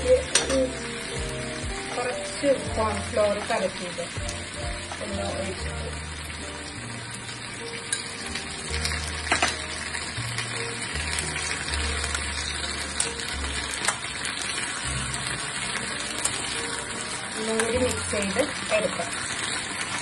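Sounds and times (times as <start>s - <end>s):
background music with low notes: 0.0s - 20.0s
chicken sizzling in a pan: 0.0s - 20.0s.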